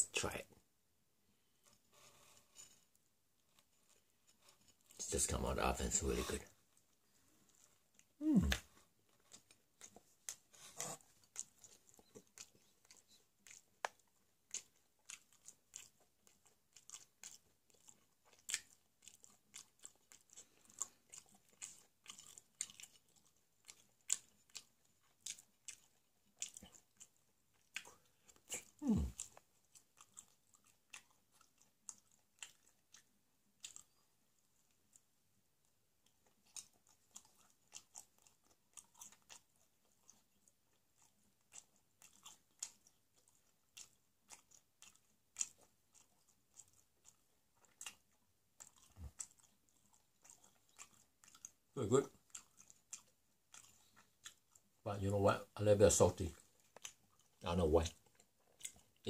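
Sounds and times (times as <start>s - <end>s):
person chewing pizza: 1.4s - 59.0s.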